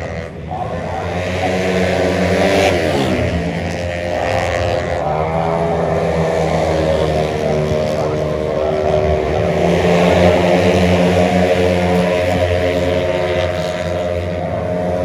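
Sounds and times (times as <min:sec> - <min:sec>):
scooter engines revving hard: 0:00.0 - 0:15.0.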